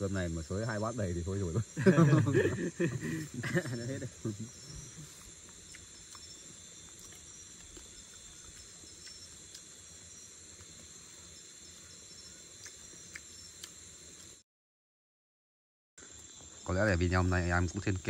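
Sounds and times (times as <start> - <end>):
forest insects droning: 0.0 - 14.4, 16.0 - 18.0.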